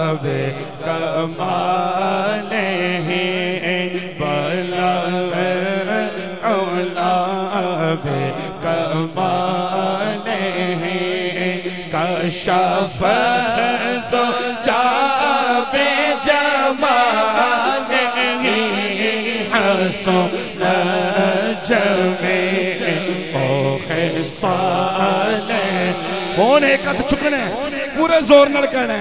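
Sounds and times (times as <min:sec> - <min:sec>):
man singing through microphone: 0:00.0 - 0:29.0.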